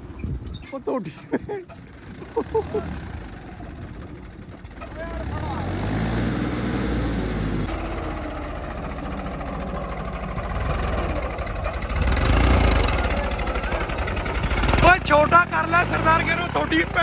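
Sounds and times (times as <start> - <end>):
tractor diesel engine running hard: 1.8 - 17.0.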